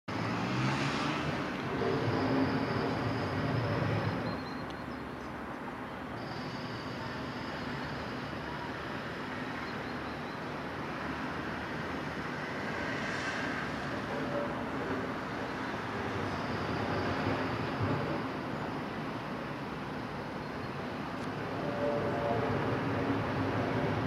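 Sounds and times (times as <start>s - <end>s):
distant road traffic: 0.1s - 24.0s.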